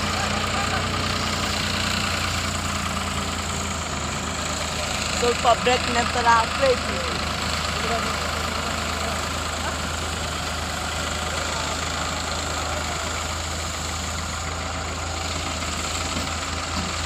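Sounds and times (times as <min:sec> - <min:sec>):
tractor diesel engine humming: 0:00.0 - 0:17.0.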